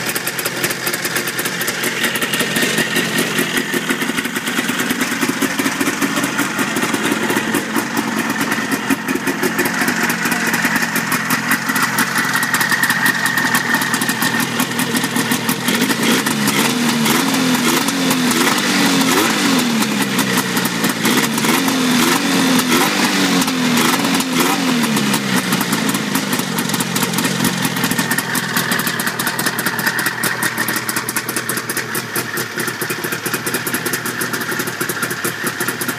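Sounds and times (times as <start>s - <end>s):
snowmobile engine idling and revving: 0.0s - 35.9s.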